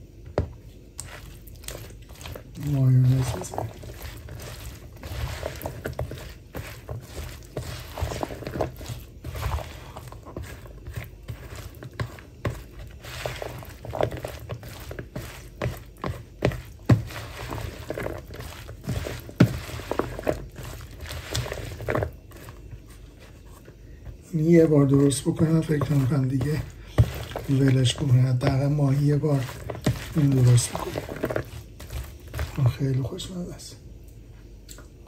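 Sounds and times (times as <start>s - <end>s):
low steady hum: 0.0s - 35.0s
spoon scraping plastic bowl: 1.0s - 33.1s.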